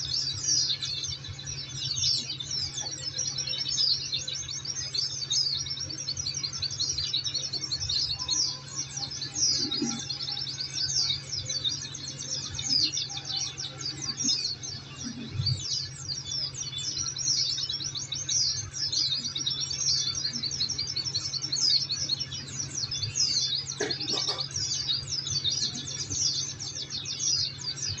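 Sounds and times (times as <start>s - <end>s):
small birds twittering: 0.0s - 28.0s.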